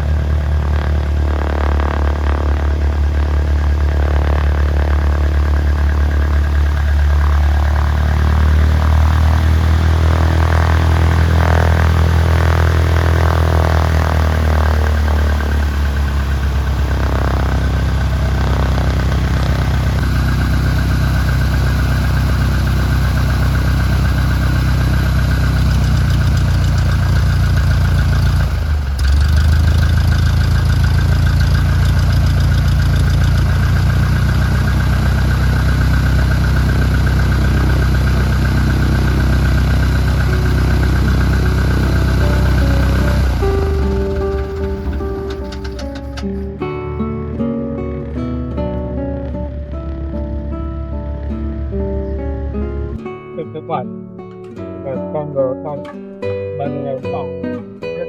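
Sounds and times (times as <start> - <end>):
aircraft piston engine running: 0.0 - 46.6.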